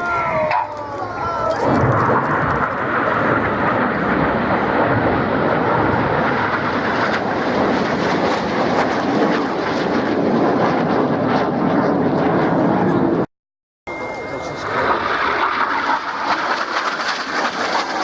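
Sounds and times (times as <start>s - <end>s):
jets flying over: 0.0s - 13.3s, 13.9s - 18.0s.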